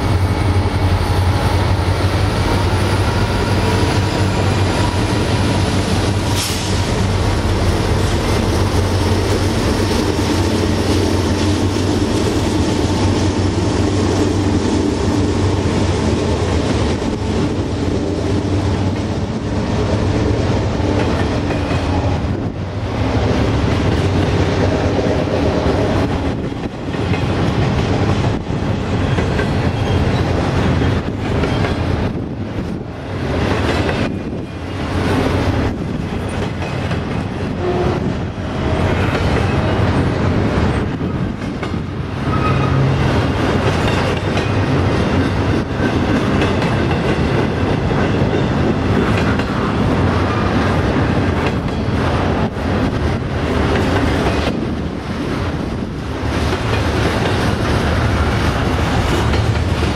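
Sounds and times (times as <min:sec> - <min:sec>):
diesel locomotive engine drone: 0:00.0 - 0:59.9
train wheels clattering on rail: 0:00.0 - 0:59.9.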